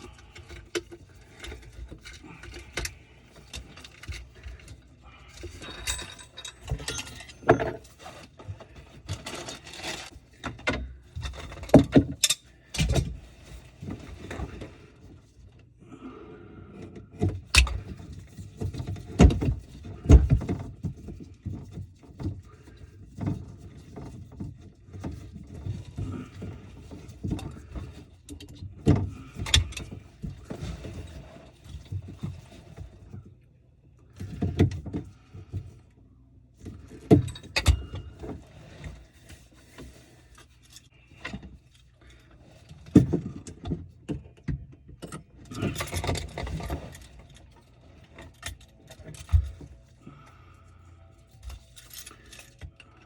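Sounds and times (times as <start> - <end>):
tools and plumbing parts clinking: 0.0 - 15.7, 16.7 - 33.3, 36.6 - 53.0.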